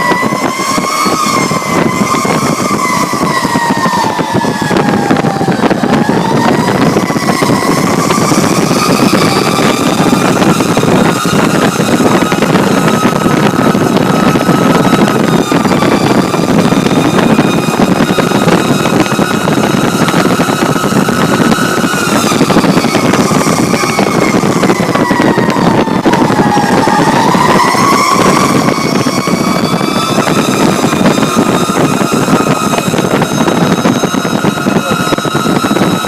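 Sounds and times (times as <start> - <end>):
fire truck siren: 0.0 - 36.0
loud diesel engine: 0.0 - 36.0
road noise: 0.0 - 36.0.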